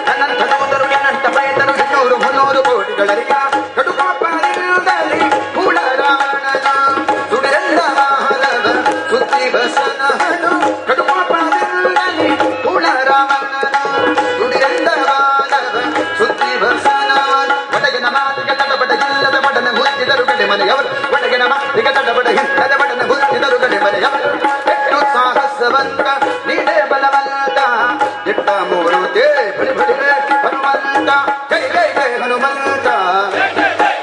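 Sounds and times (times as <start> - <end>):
tabla rhythm: 0.0 - 34.0.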